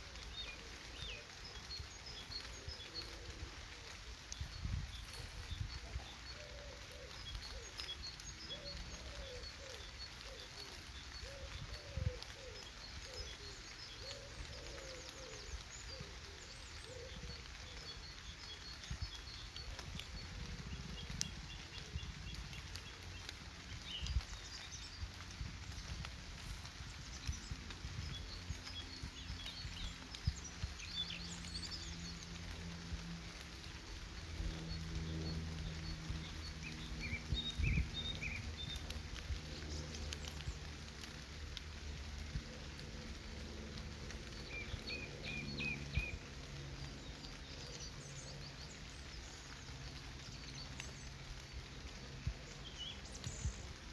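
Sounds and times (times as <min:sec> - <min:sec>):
birds low arching calls: 0:00.0 - 0:53.9
low outdoor hum: 0:00.0 - 0:53.9
small birds high chirps: 0:00.0 - 0:53.9.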